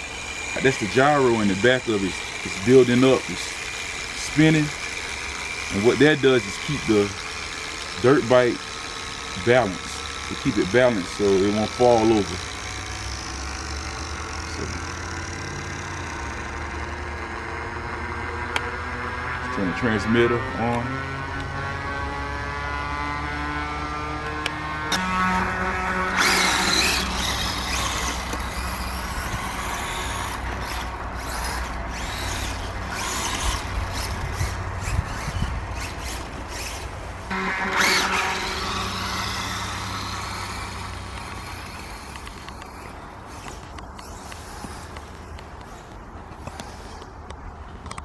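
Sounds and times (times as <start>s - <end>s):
flywheel spinning hum: 0.0s - 47.1s.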